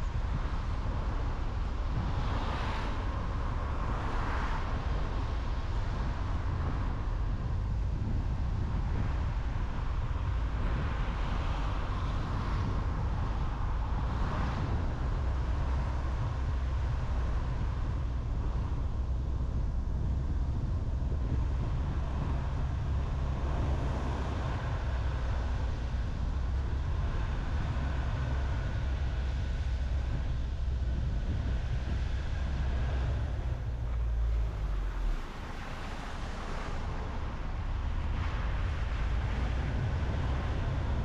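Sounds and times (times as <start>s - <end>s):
car road noise: 0.0s - 41.0s.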